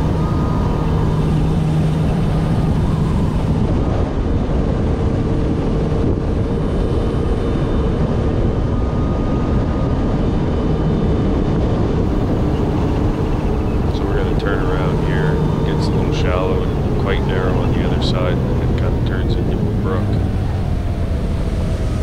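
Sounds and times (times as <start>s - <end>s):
jet ski engine running: 0.0s - 9.2s, 12.0s - 22.0s
wind noise: 0.0s - 22.0s.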